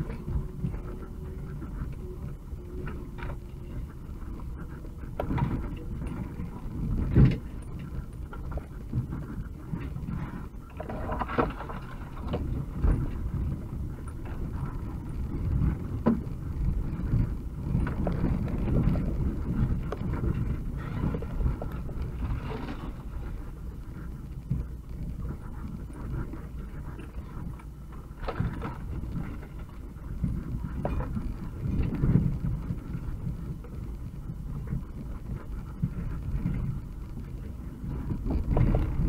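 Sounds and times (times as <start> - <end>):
van engine rumbling: 0.0 - 10.7, 11.3 - 39.0.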